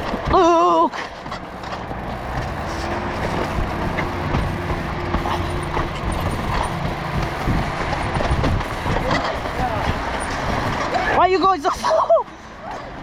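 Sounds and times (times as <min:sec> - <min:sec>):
bike clattering over ground: 0:00.0 - 0:11.6
mountain bike riding rumble: 0:00.0 - 0:13.0.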